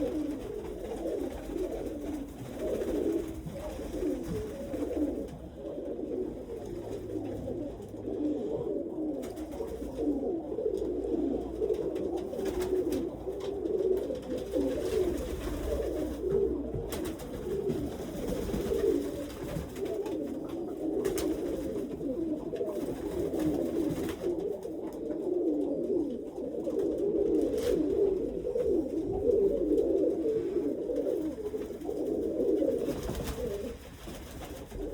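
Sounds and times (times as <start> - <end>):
pigeons cooing: 0.0 - 34.9.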